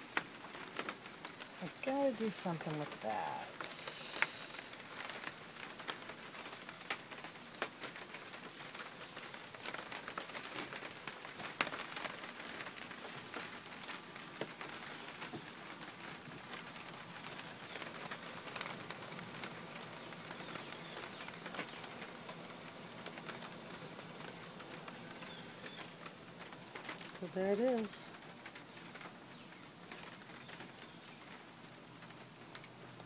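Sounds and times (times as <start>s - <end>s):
raindrops tapping: 0.0s - 33.0s
steady rain falling: 0.0s - 33.0s.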